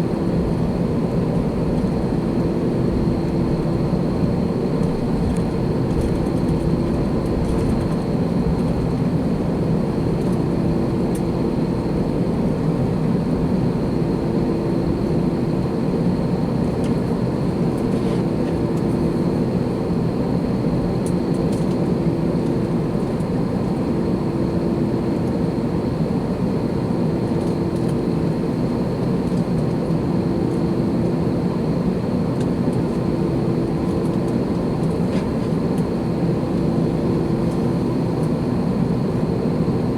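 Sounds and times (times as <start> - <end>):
constant hum tones: 0.0 - 39.9
jet engine cabin drone: 0.0 - 39.9.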